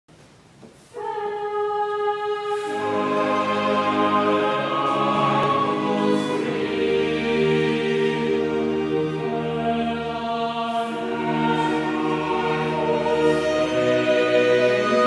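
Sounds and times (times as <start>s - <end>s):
choir singing sustained chords: 0.9s - 15.0s.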